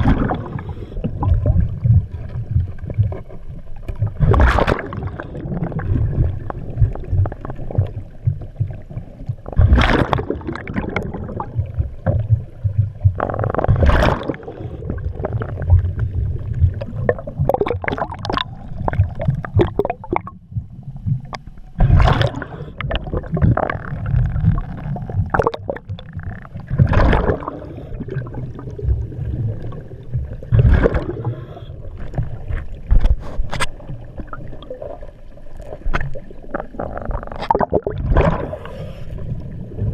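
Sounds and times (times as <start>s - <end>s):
regulator bubbling rumble: 0.0s - 33.0s, 33.8s - 39.9s
exhaled bubbles: 0.0s - 39.9s.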